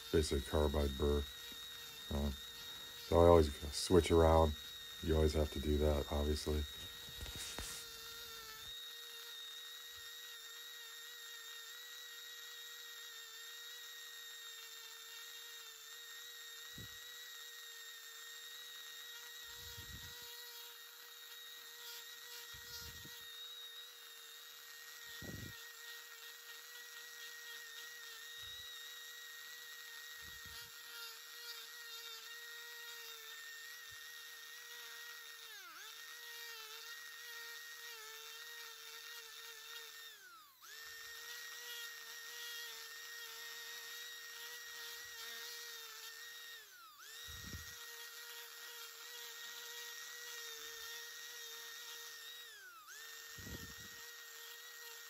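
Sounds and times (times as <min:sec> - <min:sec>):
rotary tool grinding wood: 0:00.0 - 0:55.0.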